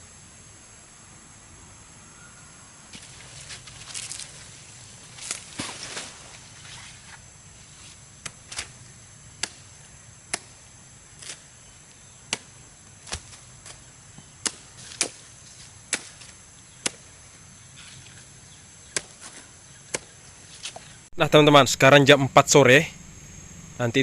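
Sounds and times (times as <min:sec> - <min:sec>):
high-pitched hum: 0:00.0 - 0:24.0.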